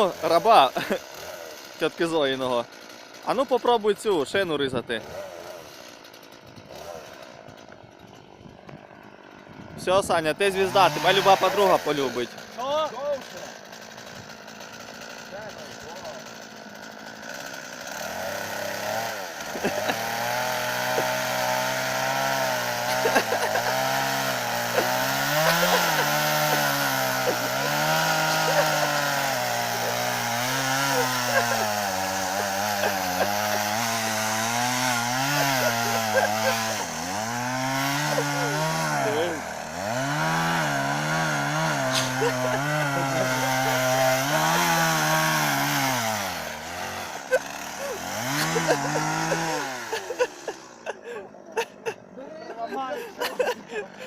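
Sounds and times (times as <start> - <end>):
chainsaw running: 0.0 - 54.0.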